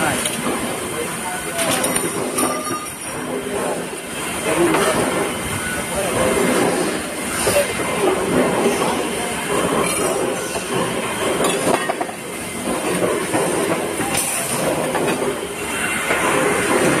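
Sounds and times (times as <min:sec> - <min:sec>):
factory machinery clattering: 0:00.0 - 0:17.0.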